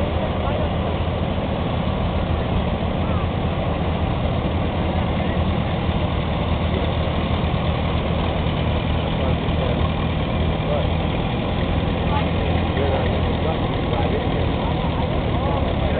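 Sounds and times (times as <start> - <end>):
tractor engines idling: 0.0 - 15.9.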